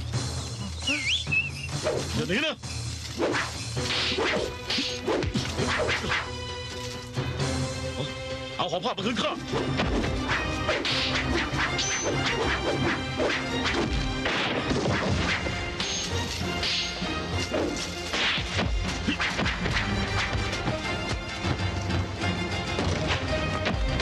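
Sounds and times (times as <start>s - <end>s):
dramatic background music: 0.0s - 24.0s.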